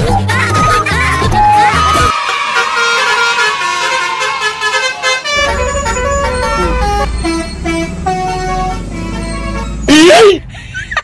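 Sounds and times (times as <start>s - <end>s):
multi-tone bus horn tune: 0.0s - 10.4s.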